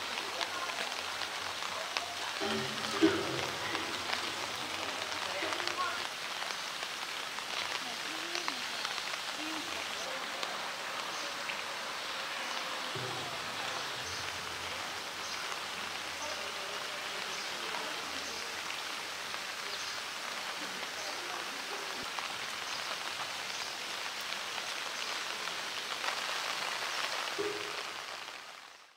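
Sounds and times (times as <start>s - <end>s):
rain on pool and concrete: 0.0s - 28.9s.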